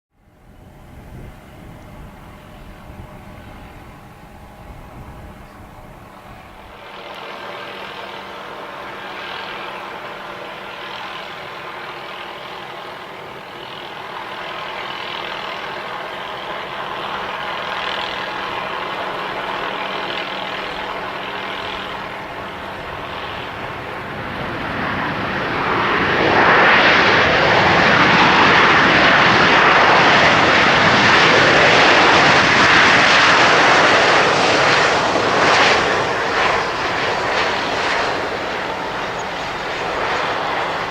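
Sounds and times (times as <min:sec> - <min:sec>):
jet engines whining and roaring: 0:00.1 - 0:40.9.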